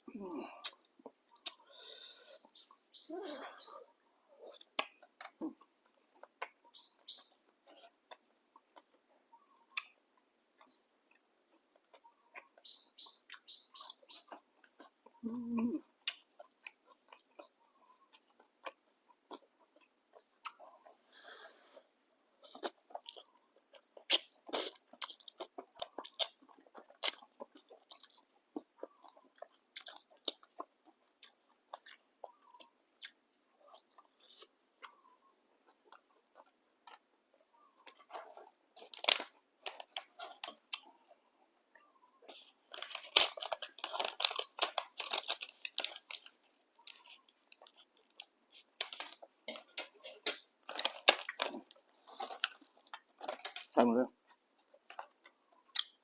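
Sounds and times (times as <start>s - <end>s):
chewing noodles with mouth clicks: 4.3s - 21.1s, 21.7s - 56.0s.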